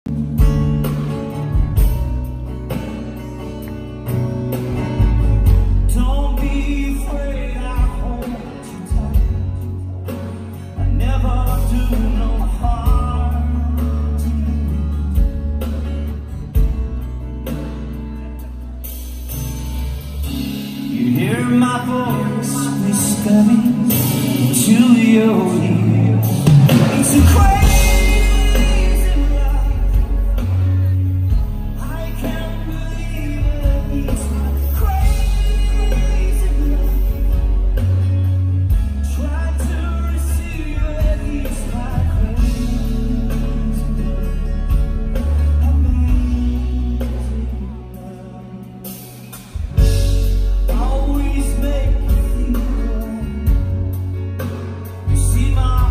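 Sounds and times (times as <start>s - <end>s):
man singing: 0.0s - 1.9s, 4.7s - 16.7s, 20.5s - 55.9s
acoustic guitar: 0.0s - 55.9s
electric bass long deep notes: 0.0s - 55.9s.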